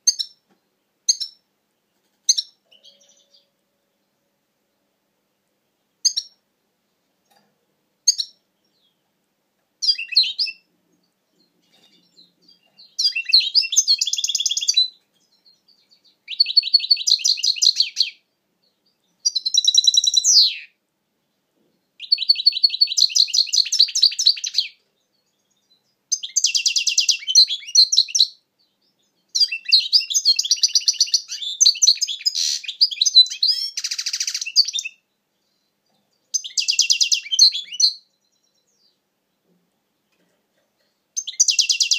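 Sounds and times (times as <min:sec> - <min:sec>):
finch singing: 0:00.0 - 0:00.5, 0:01.1 - 0:04.2, 0:06.0 - 0:06.4, 0:08.1 - 0:09.1, 0:09.8 - 0:20.8, 0:21.7 - 0:40.2, 0:40.8 - 0:41.9.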